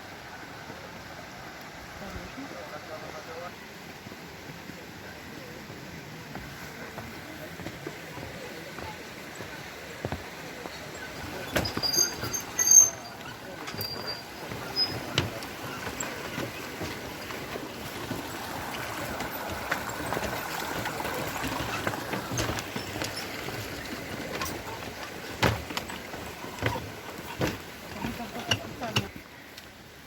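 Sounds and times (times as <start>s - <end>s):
flowing creek: 0.0s - 30.0s.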